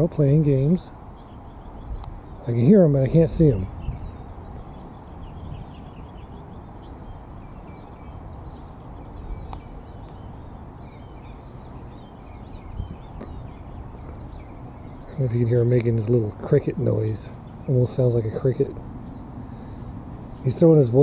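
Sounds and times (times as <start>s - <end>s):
soft bird chirps: 0.0s - 21.0s.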